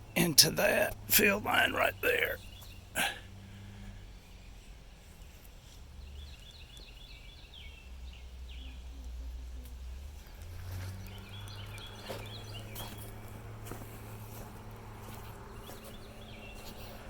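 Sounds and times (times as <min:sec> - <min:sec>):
low steady hum: 0:00.0 - 0:17.0
songbird chirping: 0:00.0 - 0:17.0.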